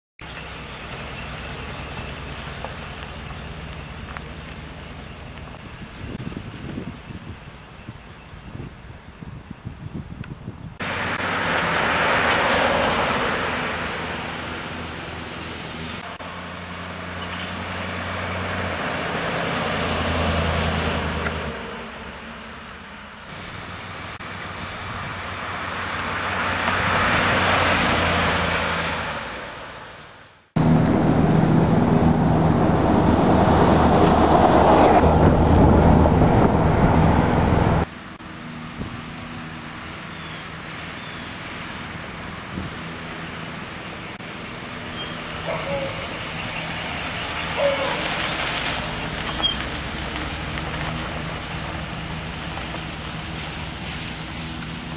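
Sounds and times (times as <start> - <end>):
truck engine: 0.2 - 6.8, 10.8 - 54.9
tyres on paved road: 0.2 - 54.9.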